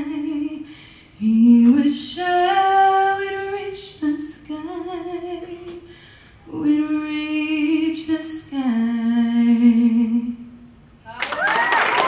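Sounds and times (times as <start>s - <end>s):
woman singing unaccompanied: 0.0s - 5.8s, 6.5s - 10.5s.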